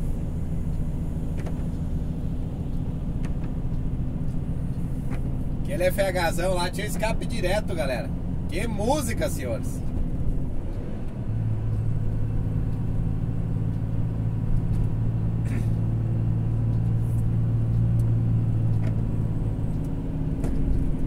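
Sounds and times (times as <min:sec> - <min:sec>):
truck diesel engine droning: 0:00.0 - 0:21.0.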